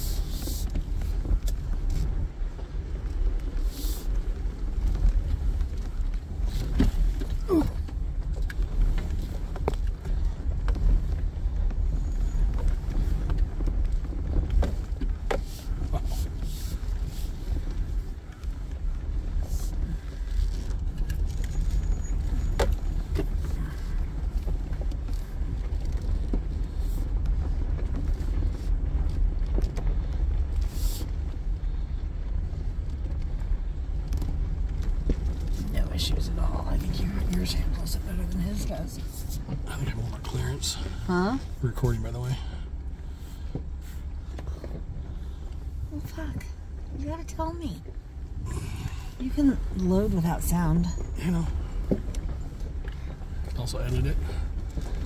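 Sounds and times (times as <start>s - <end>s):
body knocks and rattles: 0.0s - 55.0s
engine and road rumble: 0.0s - 55.0s.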